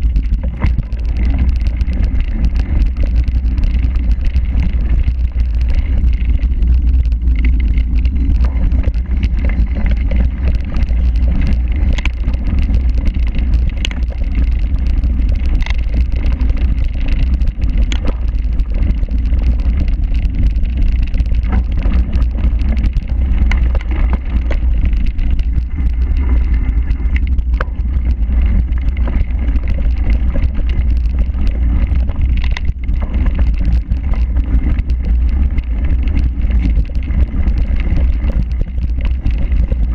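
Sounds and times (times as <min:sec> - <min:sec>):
bike clicks and rattles: 0:00.0 - 0:39.9
wind and ground vibration rumble: 0:00.0 - 0:39.9.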